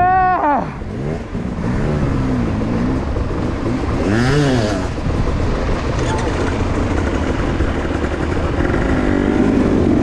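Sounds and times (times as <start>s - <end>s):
dirt bike engine revving: 0.7s - 5.1s, 5.8s - 10.0s.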